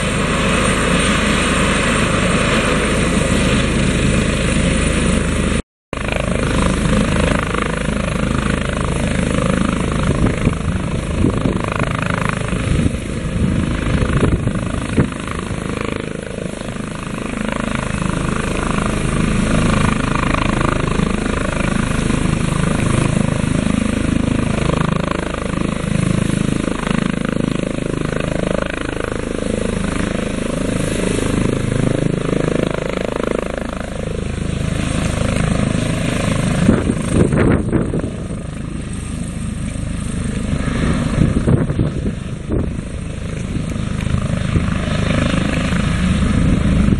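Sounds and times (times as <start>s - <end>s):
helicopter rotor and turbine: 0.0s - 46.9s.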